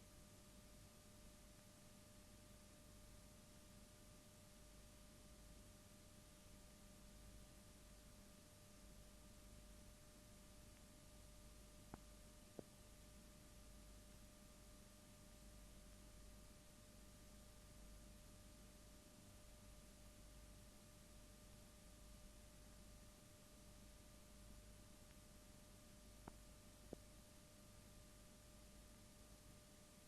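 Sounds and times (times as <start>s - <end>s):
thin steady hum: 0.0s - 30.0s.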